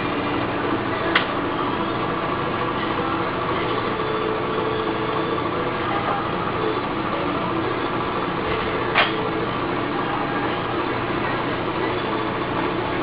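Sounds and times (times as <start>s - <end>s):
printer mechanical hum: 0.0s - 13.0s.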